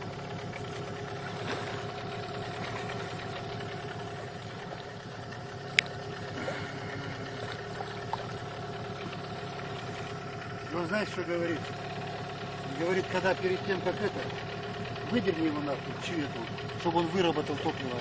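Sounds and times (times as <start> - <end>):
outboard motor idling: 0.0 - 18.0.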